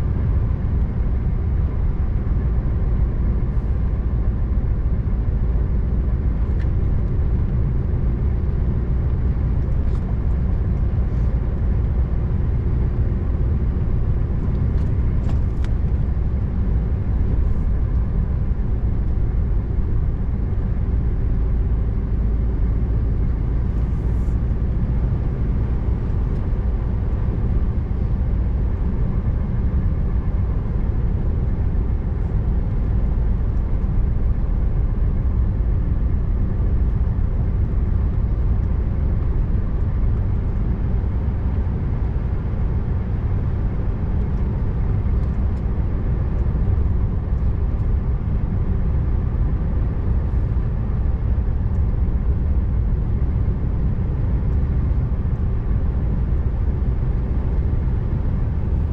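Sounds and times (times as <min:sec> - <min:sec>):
truck engine and road noise: 0:00.0 - 0:58.9.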